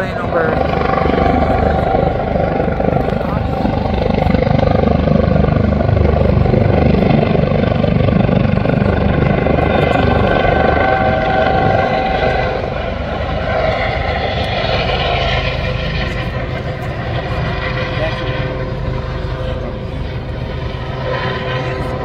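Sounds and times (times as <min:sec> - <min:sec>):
helicopter engine whine: 0:00.0 - 0:22.0
helicopter rotor chop: 0:00.0 - 0:22.0.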